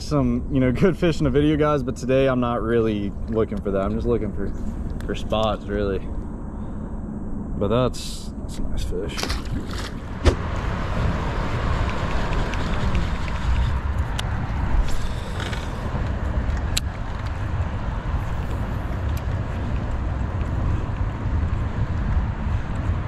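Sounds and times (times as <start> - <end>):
wind on microphone: 2.9 - 23.0.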